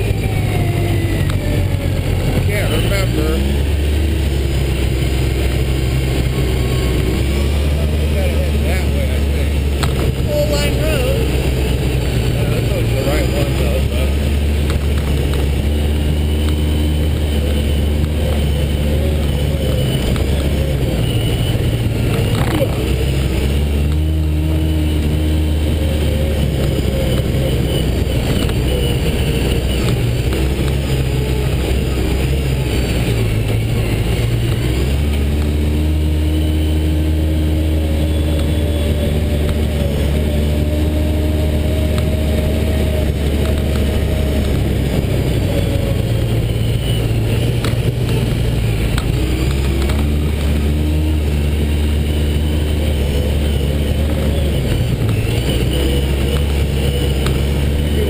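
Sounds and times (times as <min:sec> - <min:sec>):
off-road vehicle engine running: 0:00.0 - 0:58.0
wind noise on camera: 0:00.0 - 0:58.0.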